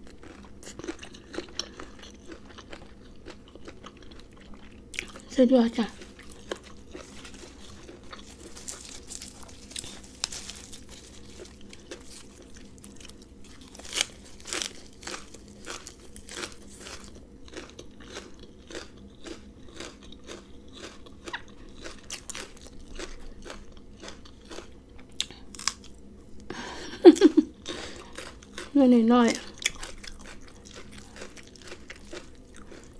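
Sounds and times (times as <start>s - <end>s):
crunching and wet chewing: 0.0s - 32.9s.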